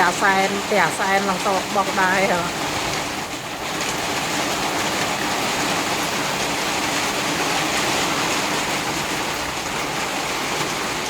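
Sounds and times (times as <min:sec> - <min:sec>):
hail falling hard: 0:00.0 - 0:11.0.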